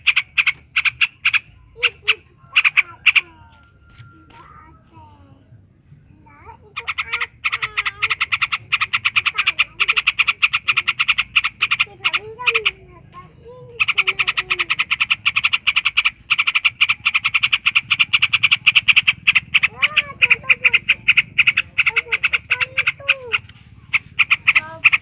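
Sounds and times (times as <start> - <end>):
bird rattling call: 0.0 - 5.0, 6.3 - 25.0.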